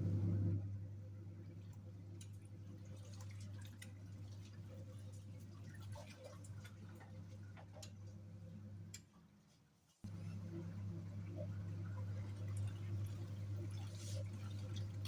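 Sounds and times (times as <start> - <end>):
washing machine motor hum: 0.0 - 8.9, 10.1 - 15.0.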